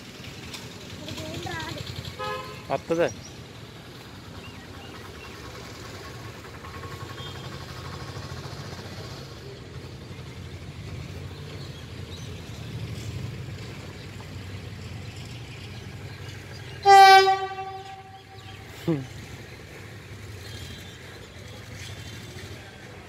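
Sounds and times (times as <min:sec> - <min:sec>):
distant train rumble: 0:00.0 - 0:23.0
faint outdoor background noise: 0:00.0 - 0:23.0.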